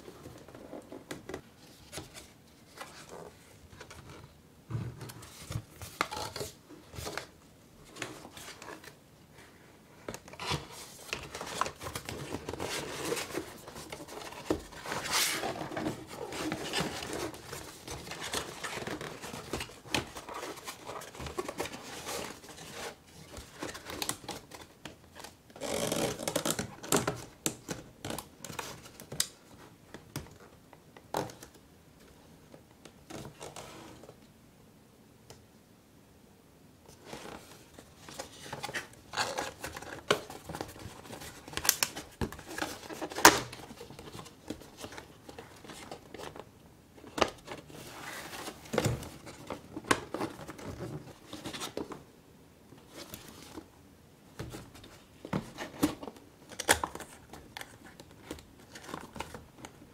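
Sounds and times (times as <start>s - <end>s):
cardboard rustling and scraping: 0.0s - 30.3s, 36.9s - 52.1s, 54.3s - 59.9s.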